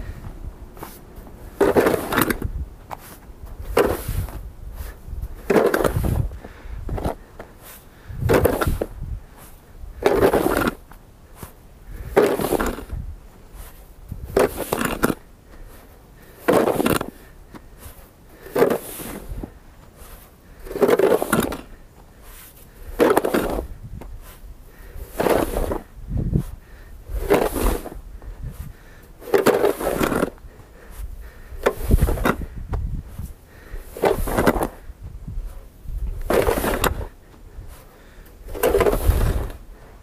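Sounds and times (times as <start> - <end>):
snow shovel scraping: 0.8 - 39.7.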